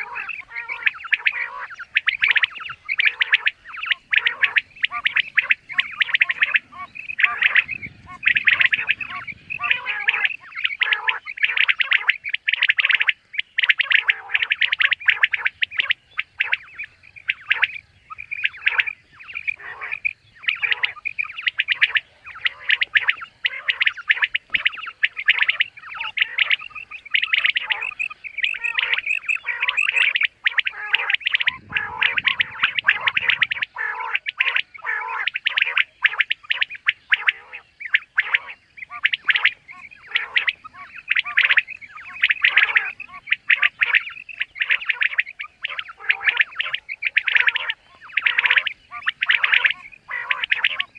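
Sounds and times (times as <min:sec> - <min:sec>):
quail calling: 0:00.0 - 0:50.9.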